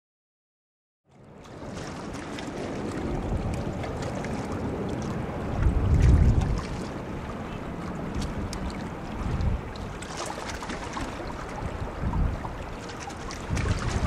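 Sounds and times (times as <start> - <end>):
small waves lapping: 1.1 - 14.0
wind buffeting microphone: 1.3 - 14.0.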